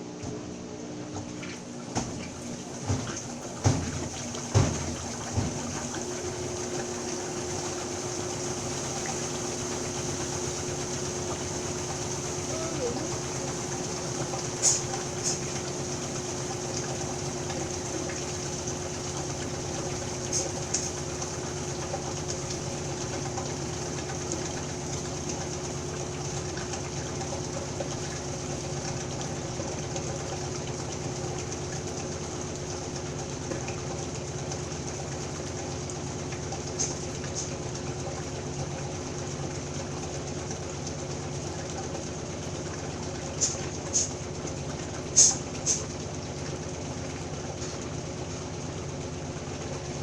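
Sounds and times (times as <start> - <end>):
washing machine humming: 0.0 - 50.0.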